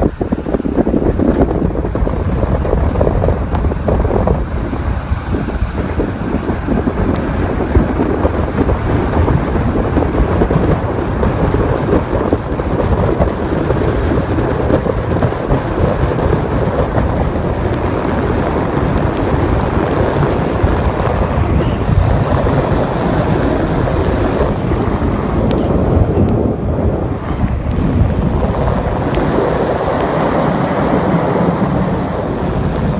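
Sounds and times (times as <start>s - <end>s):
tyres hissing on wet road: 0.0s - 32.9s
wind buffeting microphone: 0.0s - 32.9s.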